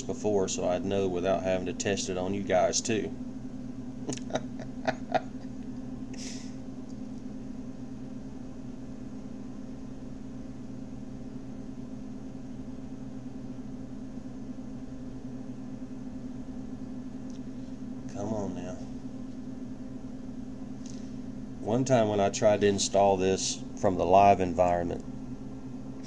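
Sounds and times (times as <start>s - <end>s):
low room and microphone hum: 0.0s - 26.0s.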